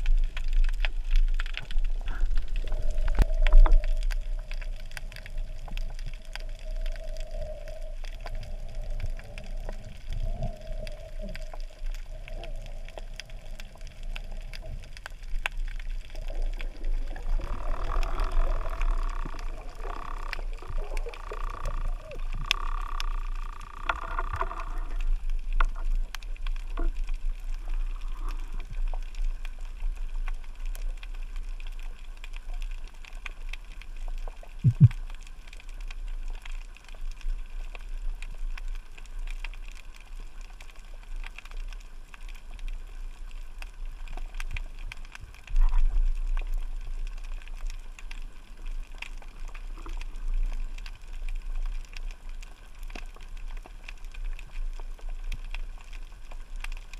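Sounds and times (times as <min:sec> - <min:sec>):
faint underwater clicks and crackles: 0:00.0 - 0:56.9
low rumble of moving water: 0:00.0 - 0:56.9.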